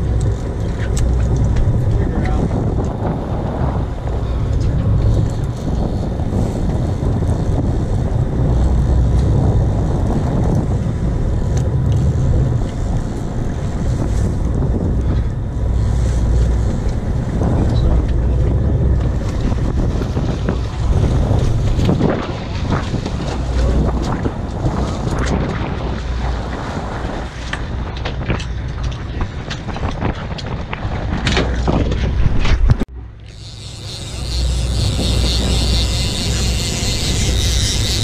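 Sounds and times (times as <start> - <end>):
boat engine running: 0.0 - 38.0
wind buffeting microphone: 0.0 - 38.0.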